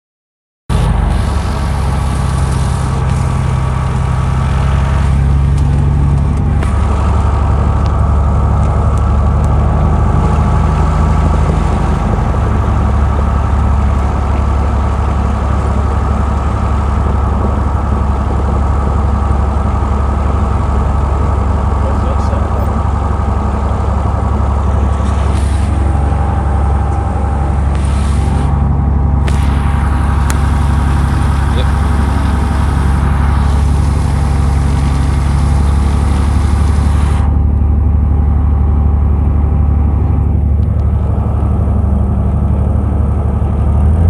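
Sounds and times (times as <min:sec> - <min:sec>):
light aircraft engine and propeller: 0:00.7 - 0:44.0.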